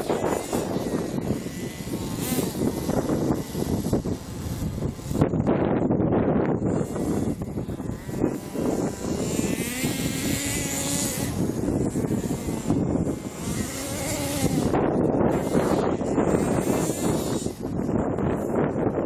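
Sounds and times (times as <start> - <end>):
toy truck motor revving: 0.0 - 5.7, 6.4 - 18.8
wind rumbling on microphone: 0.0 - 19.0.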